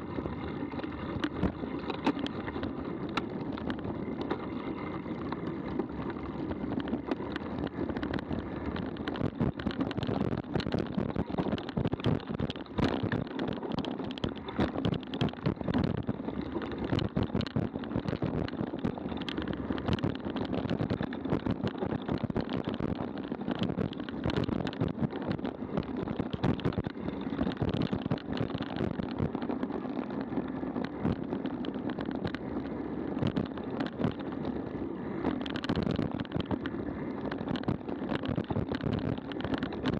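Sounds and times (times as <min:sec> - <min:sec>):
bike rattling and knocking: 0:00.0 - 0:39.9
tyres rumbling on dirt: 0:00.0 - 0:39.9
wind on microphone: 0:00.0 - 0:39.9.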